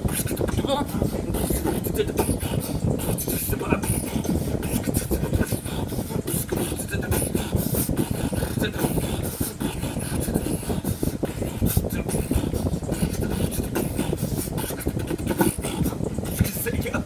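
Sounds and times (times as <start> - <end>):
beatboxing bass sounds and clicks: 0.0 - 17.0
hissing hi-hat-like sounds: 0.0 - 17.0.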